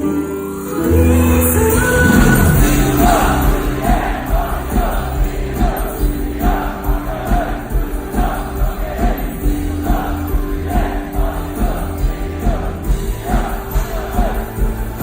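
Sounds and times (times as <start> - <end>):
girl group singing: 0.9 - 15.0
backing track with pulsing beat: 1.6 - 15.0.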